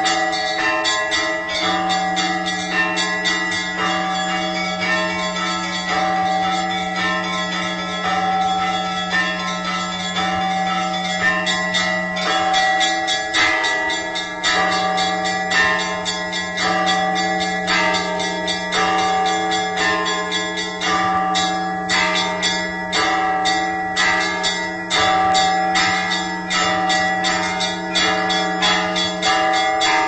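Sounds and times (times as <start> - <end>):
low hum of large bell: 0.0 - 30.0
small church bells ringing: 0.0 - 30.0.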